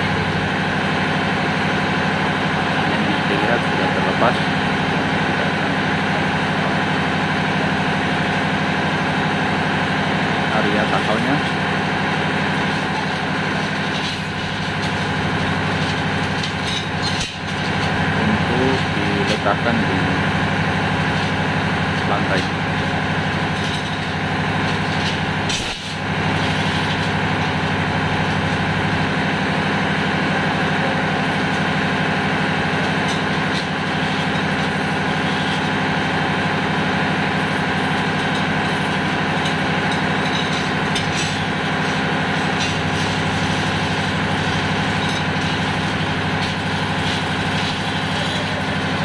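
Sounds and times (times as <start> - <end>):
engine room machinery drone: 0.0 - 49.0.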